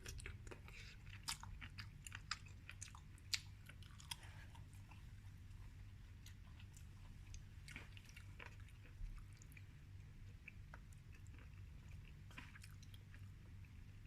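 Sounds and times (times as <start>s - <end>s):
close-up chewing: 0.0s - 14.0s
low steady hum: 0.0s - 14.0s.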